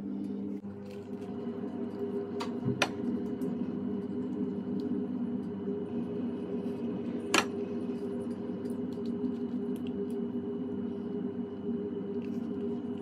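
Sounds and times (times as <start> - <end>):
steady low hum: 0.0 - 13.0
ticks and crackles of pizza eaten: 0.0 - 13.0.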